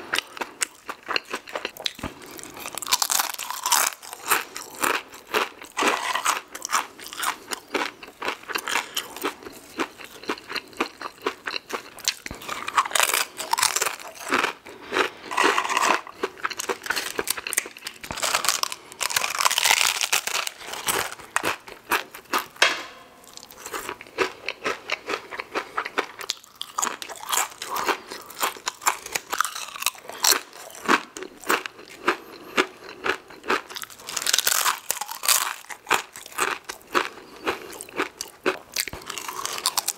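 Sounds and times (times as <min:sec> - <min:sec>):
crunching and chewing chips: 0:00.0 - 0:22.6, 0:23.2 - 0:39.9.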